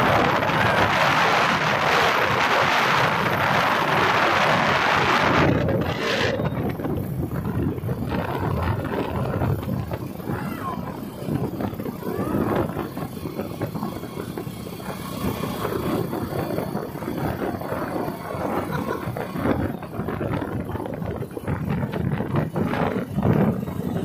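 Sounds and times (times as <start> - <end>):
moving vehicle rumbling: 0.0 - 24.0
wind on microphone: 0.0 - 24.0.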